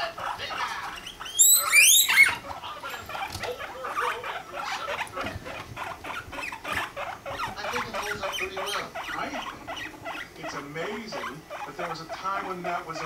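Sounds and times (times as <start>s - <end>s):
guinea pig short calls: 0.0s - 13.0s
guinea pig squealing: 0.0s - 13.0s.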